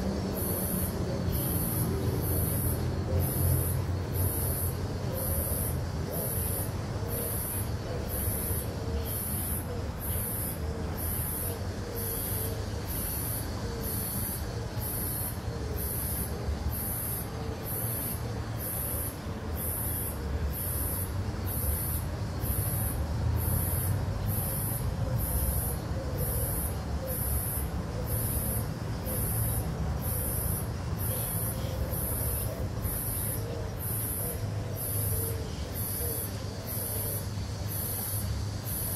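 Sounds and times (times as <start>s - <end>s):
distant street traffic: 0.0s - 38.9s.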